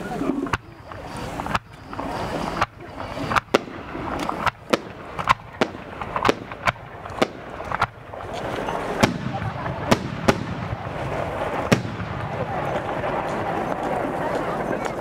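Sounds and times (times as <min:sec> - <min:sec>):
fireworks bangs: 0:00.0 - 0:15.0
steady background hiss: 0:00.0 - 0:15.0.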